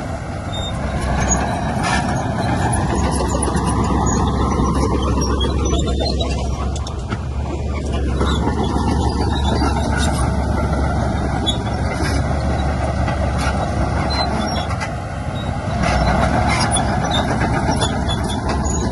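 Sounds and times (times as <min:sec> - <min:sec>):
diesel earthmoving machinery running: 0:00.0 - 0:18.9.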